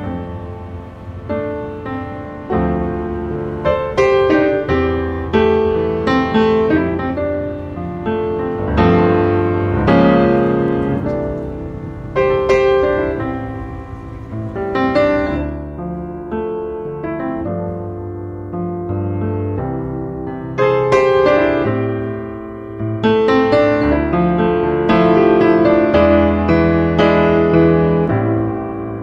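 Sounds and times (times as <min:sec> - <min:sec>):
solo piano music: 0:00.0 - 0:29.0.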